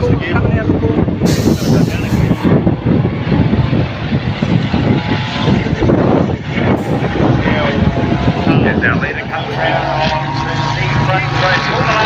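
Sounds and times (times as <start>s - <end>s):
truck diesel engines passing: 0.0s - 12.0s.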